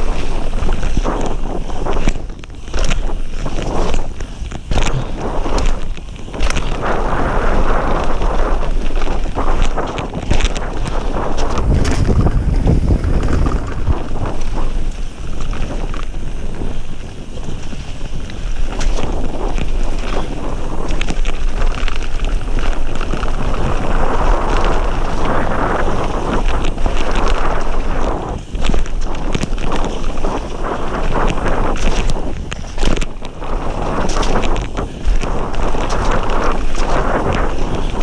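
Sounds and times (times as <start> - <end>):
bike clattering over stones: 0.0 - 38.0
tyres rushing over dirt: 0.0 - 38.0
wind buffeting microphone: 0.0 - 38.0.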